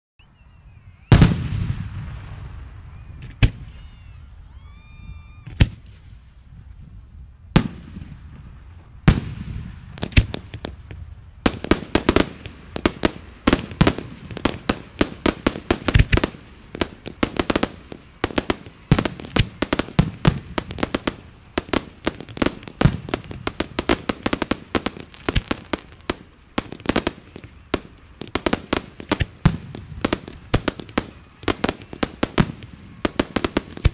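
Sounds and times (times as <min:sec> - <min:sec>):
fireworks bursting: 0:01.1 - 0:33.9.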